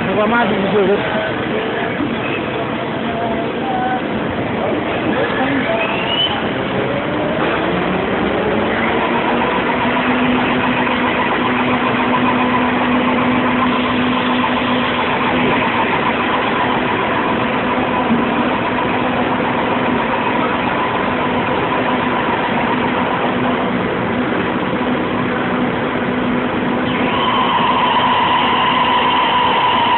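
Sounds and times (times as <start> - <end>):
lathe machine whine: 0.0 - 29.9.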